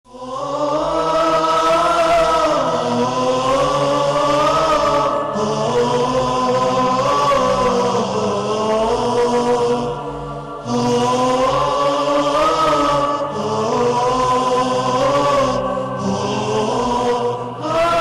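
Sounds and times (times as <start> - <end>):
choir-like vocal chanting: 0.1 - 18.0
steady low drone: 0.1 - 18.0.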